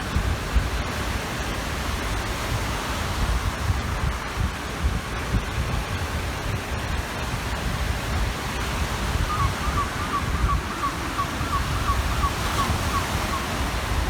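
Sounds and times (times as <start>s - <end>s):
small waves washing on shore: 0.0s - 14.0s
wind buffeting microphone: 0.0s - 14.0s.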